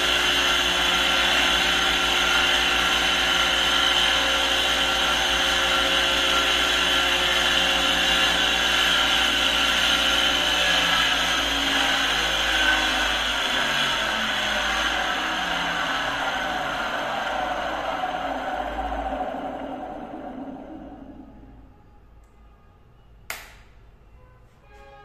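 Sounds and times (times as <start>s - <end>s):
electric motor whirring: 0.0s - 21.2s.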